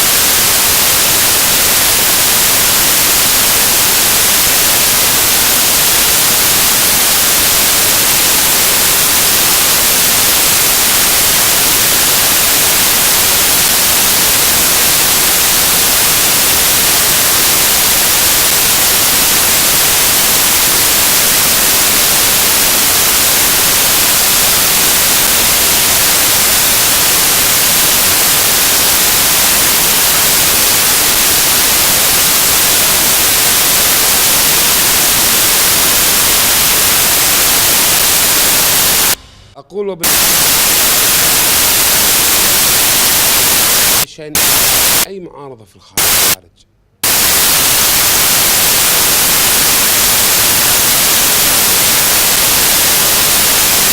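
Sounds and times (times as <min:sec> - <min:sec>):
static hiss: 0:00.0 - 0:45.1, 0:46.0 - 0:46.4, 0:47.0 - 0:53.9.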